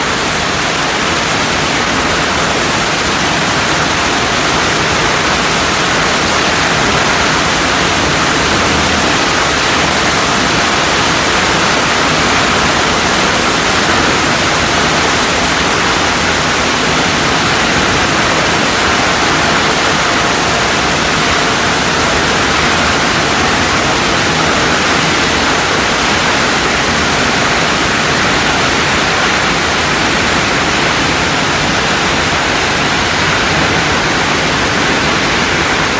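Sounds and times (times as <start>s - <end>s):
sand washing machine rushing: 0.0s - 35.9s.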